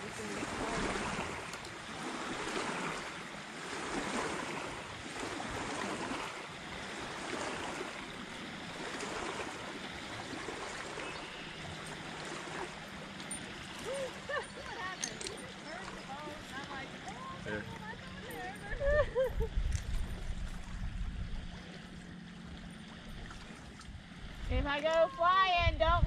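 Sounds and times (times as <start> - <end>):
water rushing past boat hull: 0.0 - 26.0.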